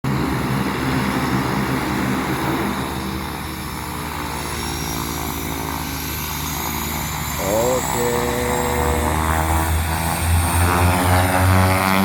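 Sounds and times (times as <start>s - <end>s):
propeller engine drone: 0.0s - 12.0s.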